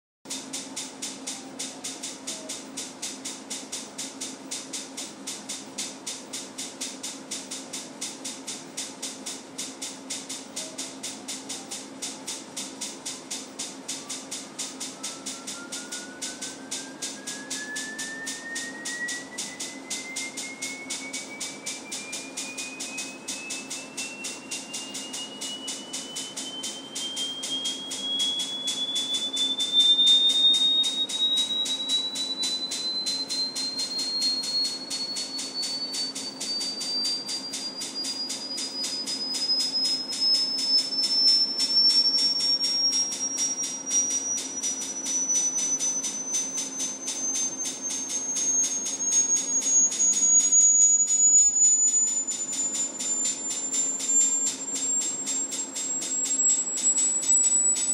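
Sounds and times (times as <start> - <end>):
fast even ticking: 0.3 - 50.6
steady low hum: 0.3 - 57.2
sine tone sweeping upward: 8.3 - 57.9.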